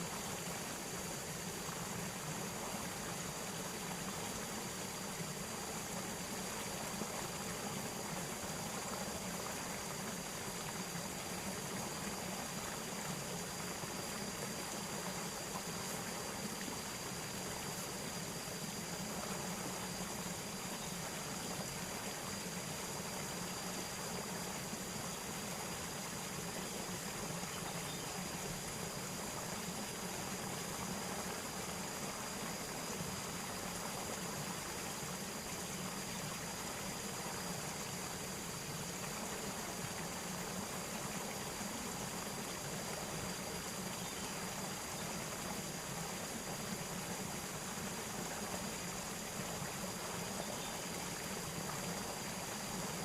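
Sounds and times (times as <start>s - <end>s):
flowing water rushing: 0.0s - 53.0s.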